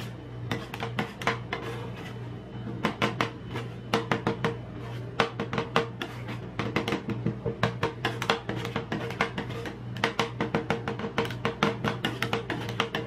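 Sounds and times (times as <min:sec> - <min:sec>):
metal spatulas chopping and scraping: 0:00.0 - 0:13.0
steady low hum: 0:00.0 - 0:13.0.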